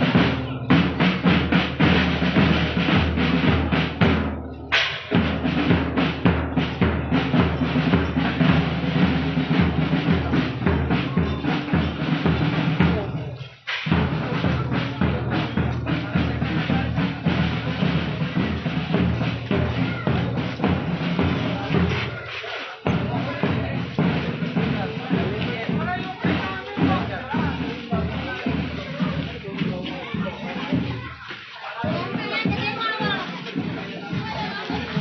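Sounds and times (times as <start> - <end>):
marching drums: 0.0 - 35.0.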